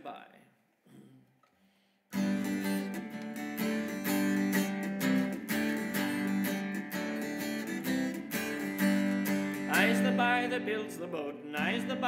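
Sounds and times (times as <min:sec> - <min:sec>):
acoustic guitar strumming: 0:02.1 - 0:12.0.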